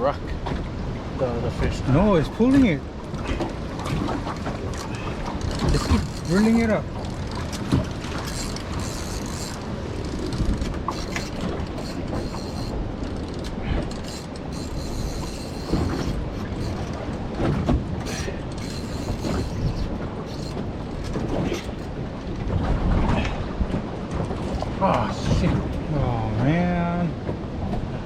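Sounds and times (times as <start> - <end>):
boat engine rumble: 0.0 - 28.0.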